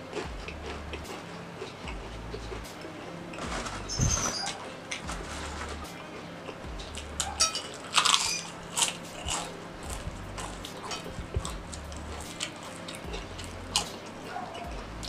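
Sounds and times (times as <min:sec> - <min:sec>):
potato chips crunching: 0:00.0 - 0:15.0.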